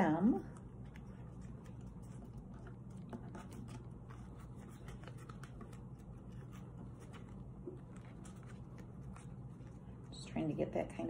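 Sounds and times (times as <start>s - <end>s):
paper rustling and crinkling: 0.6s - 10.2s.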